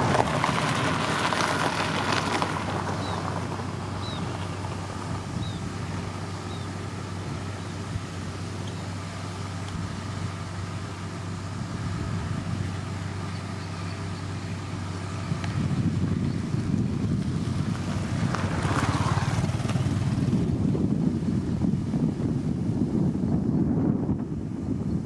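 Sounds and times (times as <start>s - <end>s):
heavy diesel engine humming: 0.0s - 25.0s.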